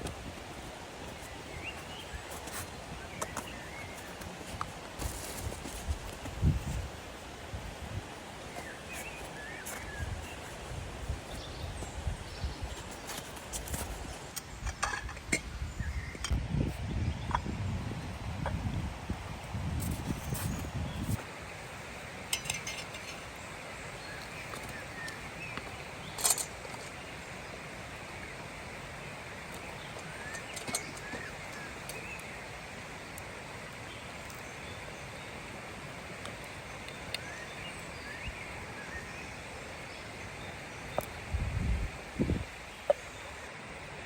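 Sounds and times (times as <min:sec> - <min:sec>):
steady forest hiss: 0:00.0 - 0:44.0.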